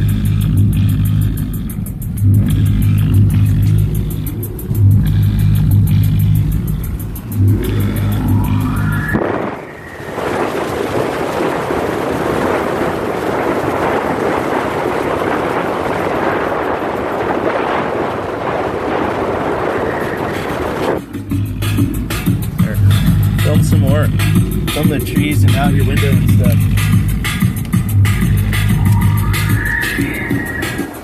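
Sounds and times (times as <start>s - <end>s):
music with heavy bass beat: 0.0s - 31.0s
vehicle driving on snowy road: 0.0s - 31.0s.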